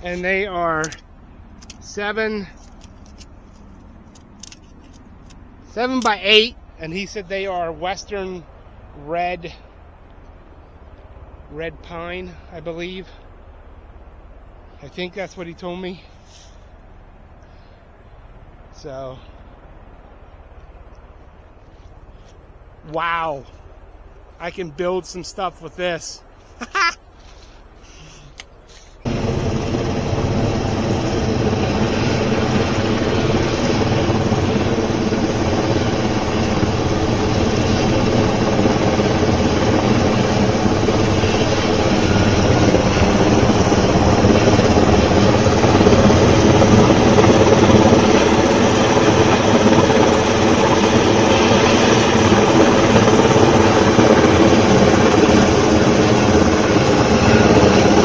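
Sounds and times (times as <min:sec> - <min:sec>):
helicopter rotor and turbine drone: 0:00.0 - 0:58.0.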